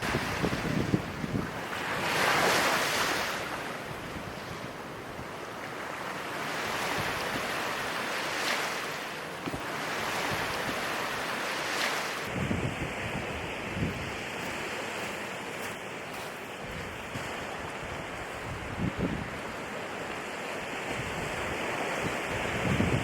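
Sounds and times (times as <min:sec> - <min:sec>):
ocean surf washing onto shore: 0:00.0 - 0:23.0.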